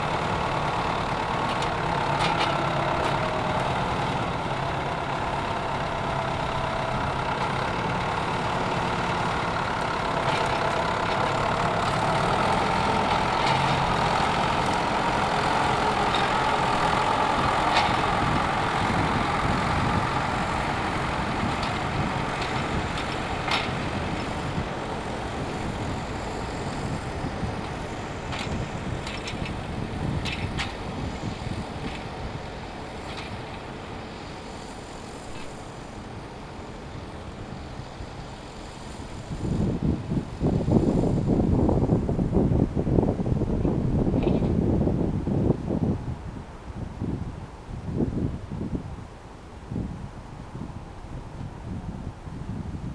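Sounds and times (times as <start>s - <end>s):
tractor engine running: 0.0s - 48.6s.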